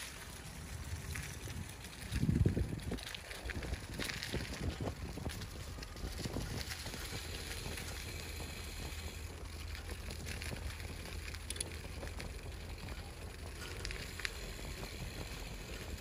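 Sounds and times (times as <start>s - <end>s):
light crackles and clicks: 0.0s - 16.0s
steady low rumble: 0.0s - 16.0s.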